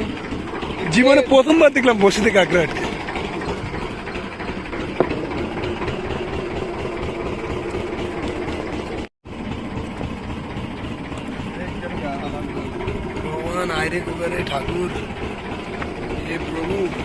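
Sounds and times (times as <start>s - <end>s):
boat engine running at low revs: 0.0s - 17.0s.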